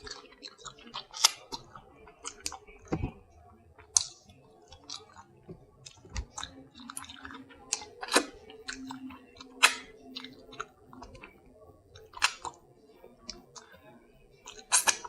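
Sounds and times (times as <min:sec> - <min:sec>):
person chewing with mouth clicks: 0:00.0 - 0:03.1, 0:03.8 - 0:12.6, 0:14.4 - 0:15.0.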